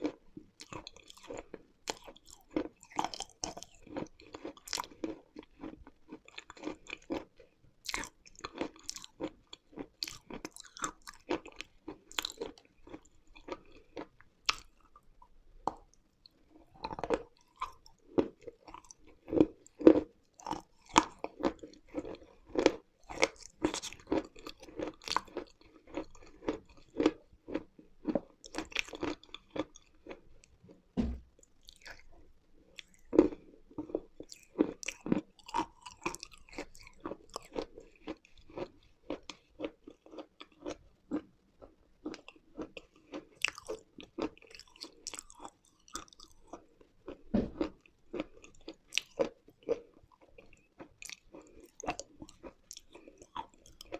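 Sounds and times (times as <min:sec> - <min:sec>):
person chewing crunchy lumps: 0:00.0 - 0:30.6, 0:31.4 - 0:53.9.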